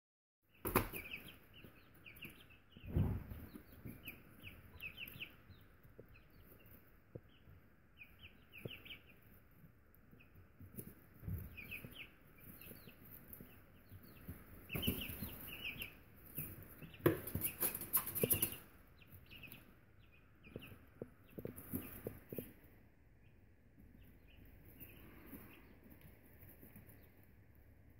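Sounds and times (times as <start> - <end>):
chicks peeping: 0.5 - 27.9.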